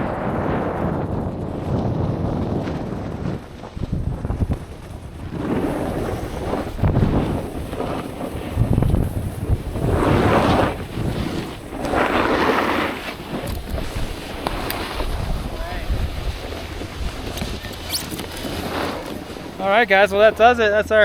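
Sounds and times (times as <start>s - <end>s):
wind buffeting microphone: 0.0s - 20.5s
skis rushing over snow: 0.1s - 21.0s.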